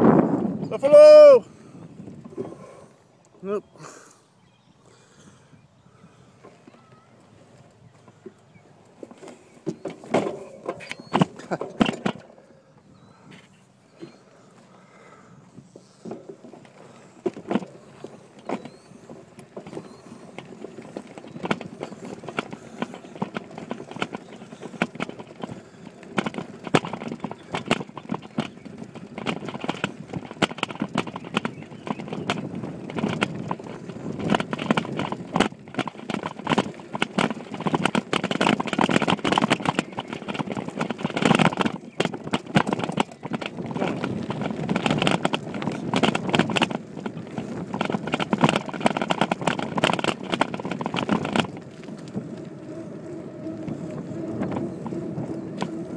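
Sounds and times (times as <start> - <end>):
bike rattling over bumpy ground: 0.0 - 55.9.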